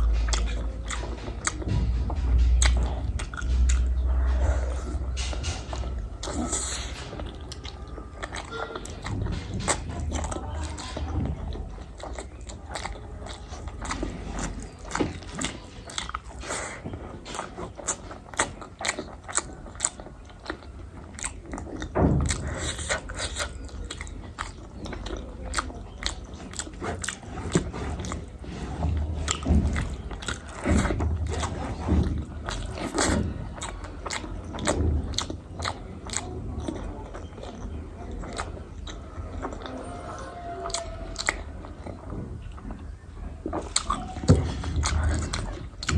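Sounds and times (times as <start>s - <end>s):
person chewing and biting: 0.0s - 42.8s, 43.4s - 45.9s
food crunches: 5.2s - 42.8s, 43.4s - 45.9s.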